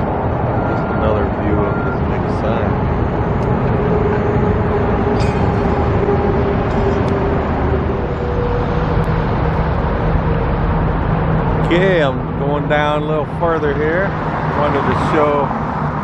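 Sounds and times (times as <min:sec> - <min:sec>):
car rumble in motion: 0:00.0 - 0:16.0
faint engine hum: 0:00.0 - 0:16.0.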